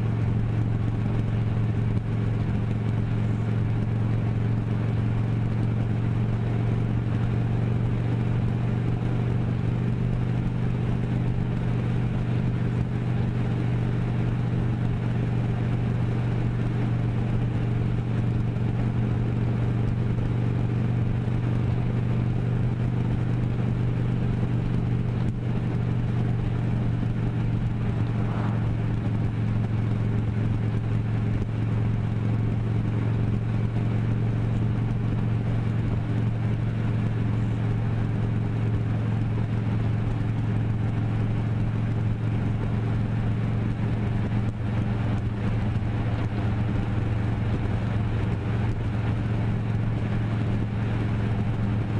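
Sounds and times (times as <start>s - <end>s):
vehicle engine droning: 0.0s - 51.9s.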